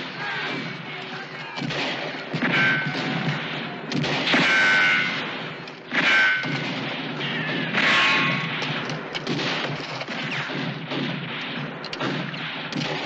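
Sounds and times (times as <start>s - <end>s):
bullet strikes: 0.0s - 13.0s
gunfire: 0.0s - 13.0s.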